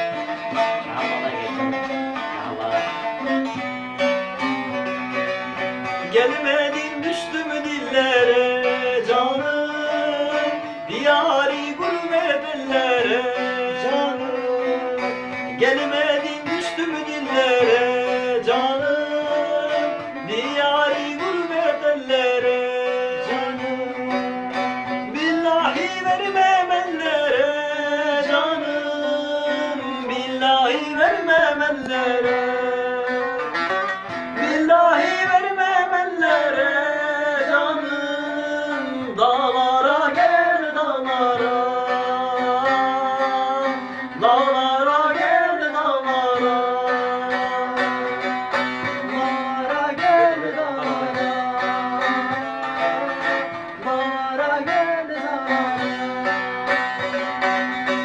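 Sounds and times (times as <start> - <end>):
man singing: 0.0 - 3.7, 4.3 - 58.0
plucked long-necked lute: 0.0 - 58.0.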